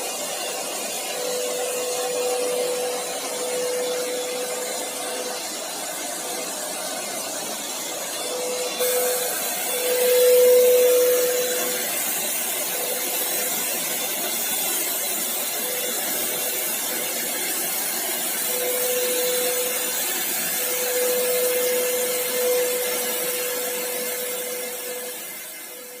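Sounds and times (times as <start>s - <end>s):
electric paint sprayer running: 0.0s - 26.0s.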